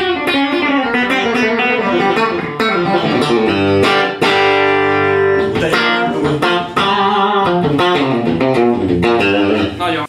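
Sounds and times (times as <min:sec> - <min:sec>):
electric guitar through amp: 0:00.0 - 0:09.8.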